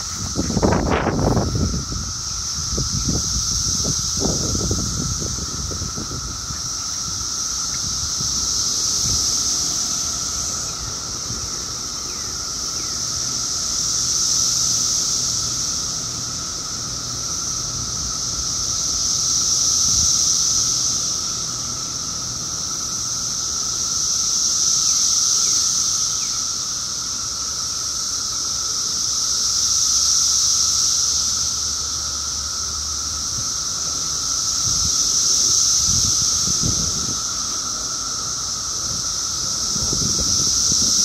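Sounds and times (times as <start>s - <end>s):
cicadas shrill chorus: 0.0s - 41.0s
lower cicada drone: 0.0s - 41.0s.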